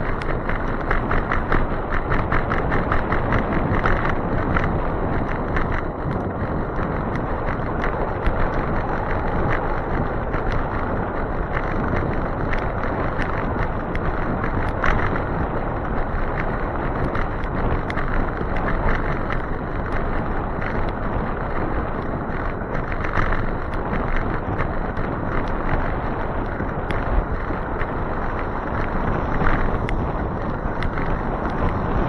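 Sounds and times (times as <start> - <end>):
light ticks: 0.0 - 32.0
rushing noise of riding in rain: 0.0 - 32.0
wind on microphone: 0.0 - 32.0.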